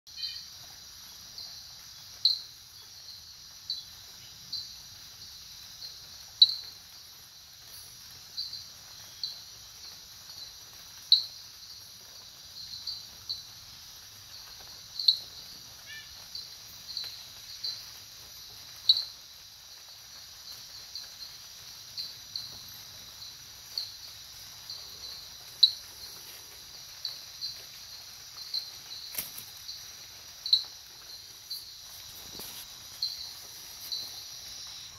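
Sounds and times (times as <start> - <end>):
insect chirps: 0.1 - 34.9
insects trilling: 0.1 - 34.9.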